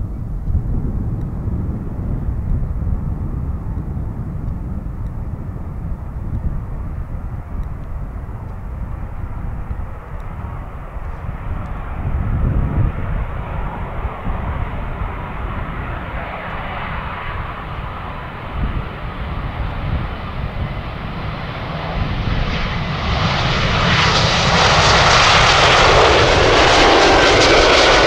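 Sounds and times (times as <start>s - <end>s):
jet engines at takeoff: 0.0s - 28.0s.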